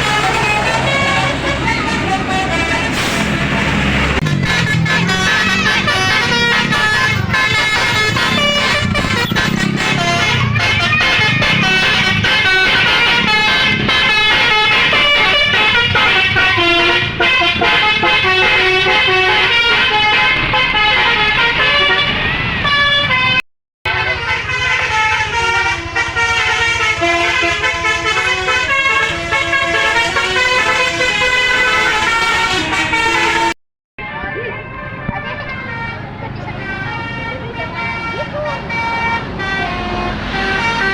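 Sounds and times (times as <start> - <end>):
musical bus horn tune: 0.0 - 40.9.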